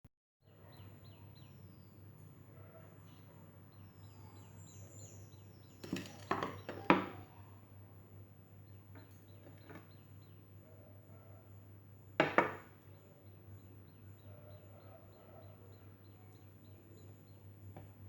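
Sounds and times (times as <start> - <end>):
birds chirping: 0.4 - 18.0.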